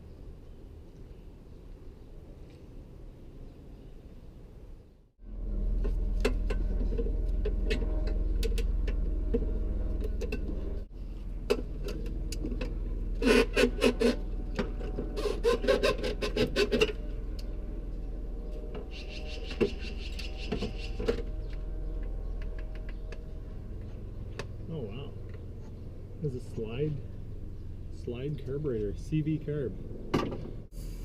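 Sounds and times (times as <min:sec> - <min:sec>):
steady low hum: 0:04.6 - 0:31.0.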